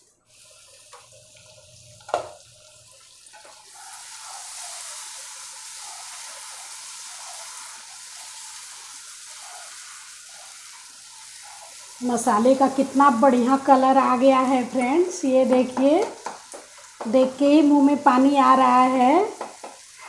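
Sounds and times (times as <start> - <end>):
masala sizzling in oil: 0.0 - 20.0.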